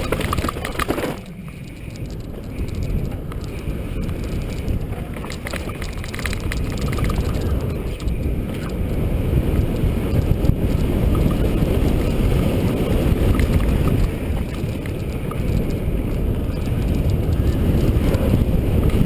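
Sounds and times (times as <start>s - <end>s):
small clicks and rattles: 0.0s - 8.8s, 9.7s - 19.0s
mountain bike on dirt trail: 0.0s - 19.0s
wind on microphone: 0.0s - 19.0s.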